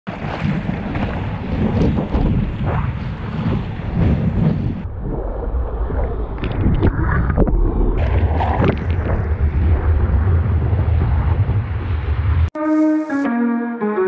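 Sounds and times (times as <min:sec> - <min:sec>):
wind buffeting microphone: 0:00.1 - 0:12.5.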